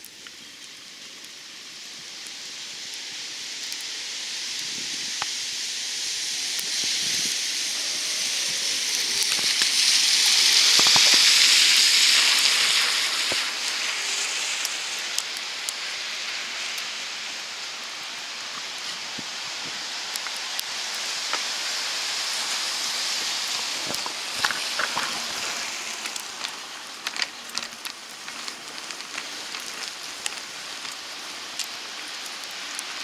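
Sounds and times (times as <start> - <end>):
steady wet hiss: 0.0 - 33.0
tyres hissing on wet street: 0.0 - 33.0.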